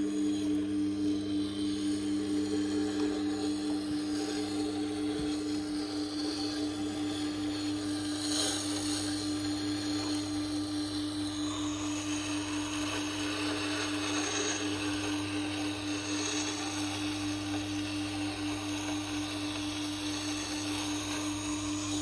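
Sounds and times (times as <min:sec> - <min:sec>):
sharpening machine hum: 0:00.0 - 0:22.0
steel grinding on wet stone: 0:00.0 - 0:22.0.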